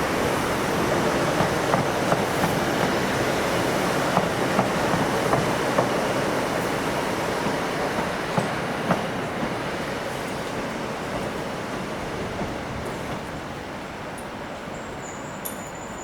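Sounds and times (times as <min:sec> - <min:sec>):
train wheels clicking over rail joints: 0:00.0 - 0:13.4
train running noise: 0:00.0 - 0:16.0.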